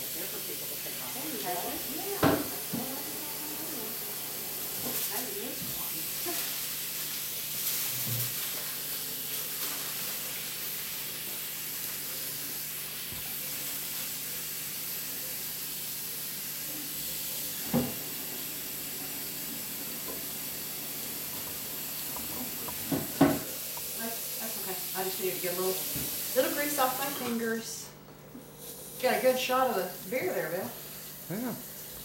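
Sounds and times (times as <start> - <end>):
background hiss: 0.2 - 32.0.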